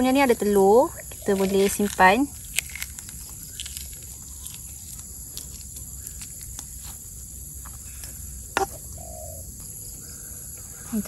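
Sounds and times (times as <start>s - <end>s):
insect chorus trilling: 0.0s - 11.0s.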